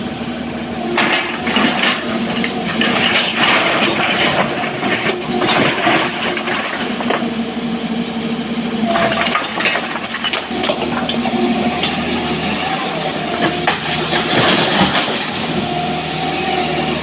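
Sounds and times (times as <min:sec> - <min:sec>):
excavator running under load: 0:00.0 - 0:17.0.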